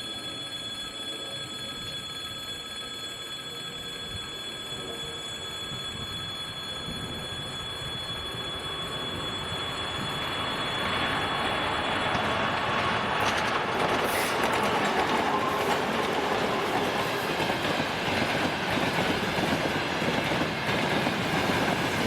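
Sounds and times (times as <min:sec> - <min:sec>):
diesel locomotive running: 0:04.1 - 0:22.0.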